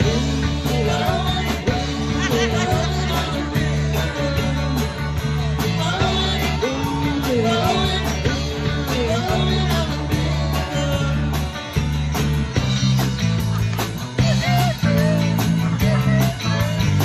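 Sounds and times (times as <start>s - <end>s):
bass guitar: 0.0s - 17.0s
drum kit: 0.0s - 17.0s
electric guitars: 0.0s - 17.0s.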